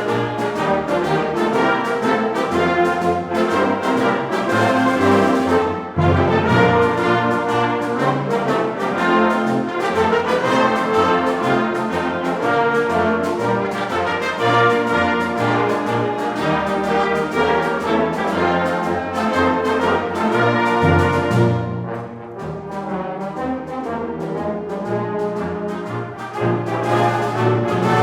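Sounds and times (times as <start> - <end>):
concert band brass playing chords: 0.0 - 28.0.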